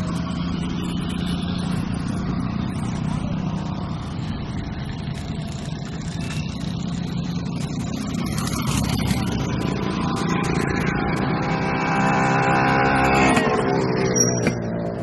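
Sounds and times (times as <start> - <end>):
motorcycle and car engines: 0.0 - 15.0
steady engine note: 0.0 - 15.0.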